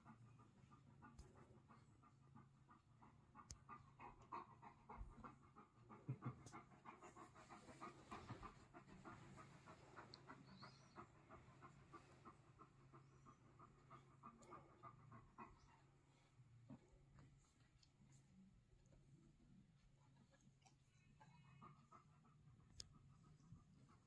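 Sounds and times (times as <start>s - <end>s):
dog panting softly: 0.0s - 24.0s.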